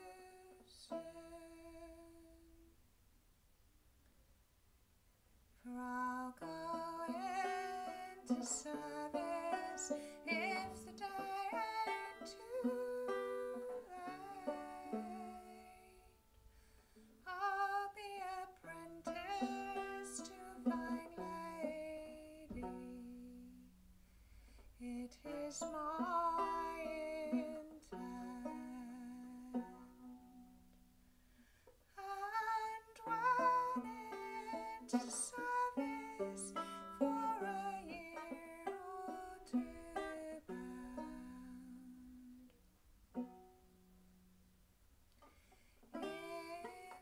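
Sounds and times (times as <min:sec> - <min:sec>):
plucked banjo: 0:00.0 - 0:02.7, 0:05.7 - 0:44.6, 0:45.2 - 0:47.0
woman singing a folk song: 0:00.0 - 0:02.8, 0:05.6 - 0:30.8, 0:31.4 - 0:43.6, 0:45.2 - 0:47.0.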